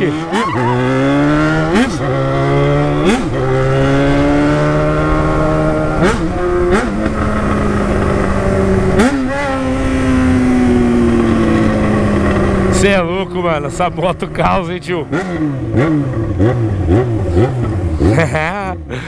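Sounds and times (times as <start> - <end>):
motorcycle revving through gears: 0.0 - 19.0.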